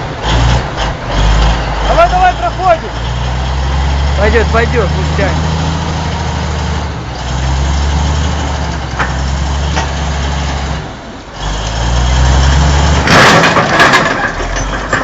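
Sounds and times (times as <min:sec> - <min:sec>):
heavy diesel engine under load: 0:00.0 - 0:15.0.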